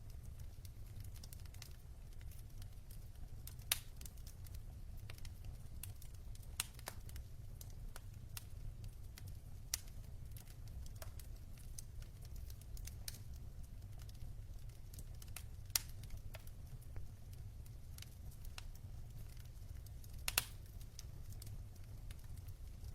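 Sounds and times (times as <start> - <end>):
logs crackling in a fireplace: 0.0 - 22.9.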